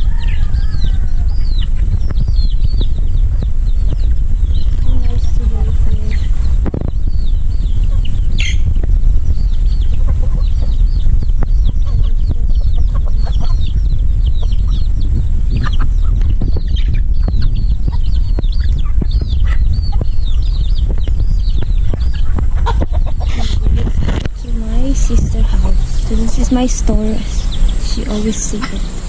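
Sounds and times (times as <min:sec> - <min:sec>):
chickens clucking: 0:00.0 - 0:29.0
high falling peeps: 0:00.0 - 0:29.0
wind rumble on microphone: 0:00.0 - 0:29.0.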